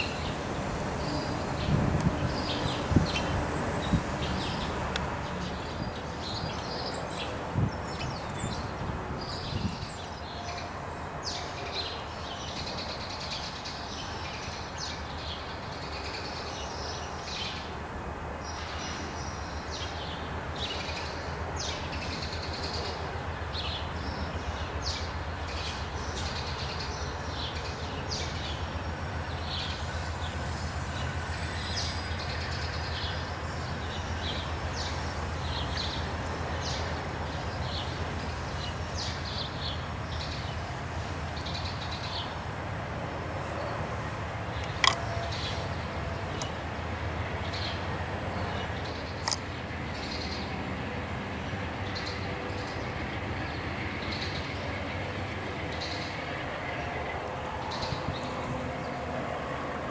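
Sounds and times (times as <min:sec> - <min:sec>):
passenger train rumbling: 0:00.0 - 0:59.9.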